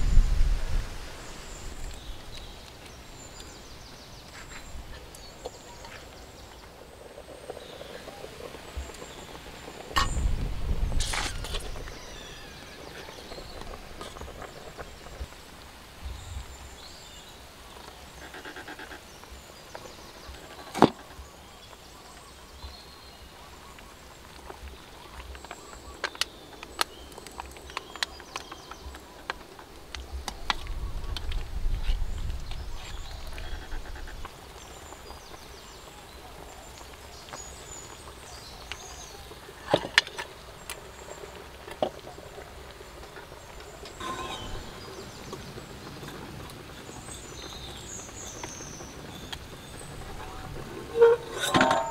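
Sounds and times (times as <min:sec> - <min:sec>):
faint outdoor background noise: 0:00.0 - 0:51.9.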